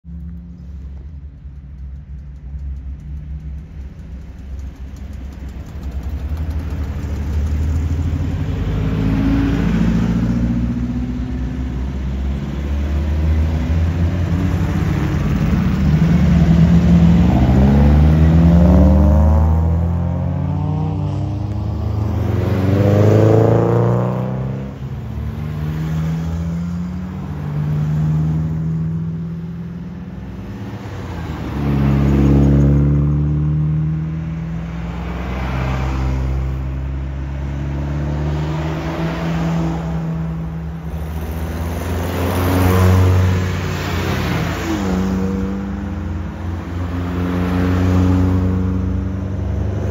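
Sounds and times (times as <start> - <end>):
cars driving past: 0.1 - 49.9.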